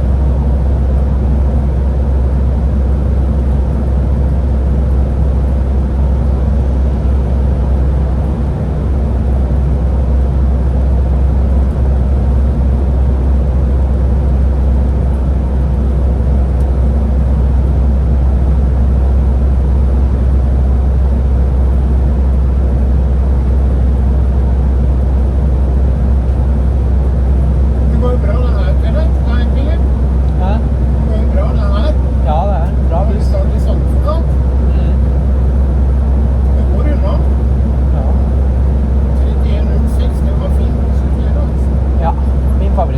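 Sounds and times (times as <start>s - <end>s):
bus engine rumbling: 0.0s - 42.9s
faint steady whine: 0.0s - 42.9s.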